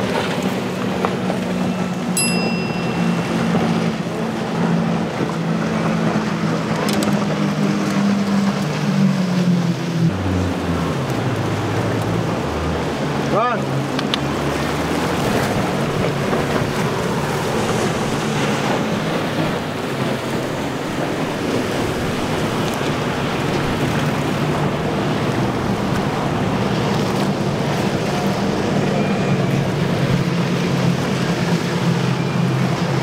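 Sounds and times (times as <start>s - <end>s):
outboard engines droning: 0.0s - 33.0s
rush of boat wake: 0.0s - 33.0s.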